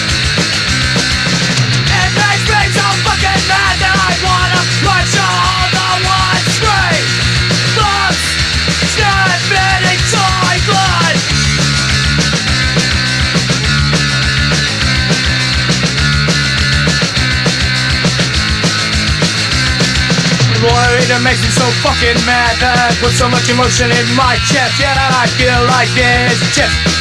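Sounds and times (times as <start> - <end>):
instrumental punk rock band: 0.0 - 27.0.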